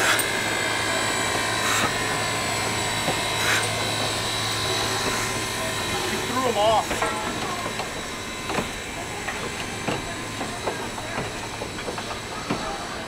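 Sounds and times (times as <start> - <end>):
train wheels clicking over rail joints: 0.0 - 13.0.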